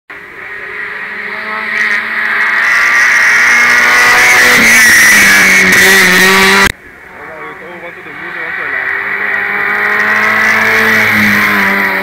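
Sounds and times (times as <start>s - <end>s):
race car engine passing by: 0.2s - 12.0s.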